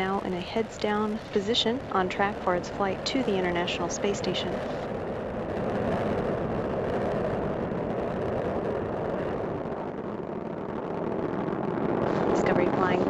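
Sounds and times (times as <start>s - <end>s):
rocket engines deep rumble: 0.0s - 13.0s.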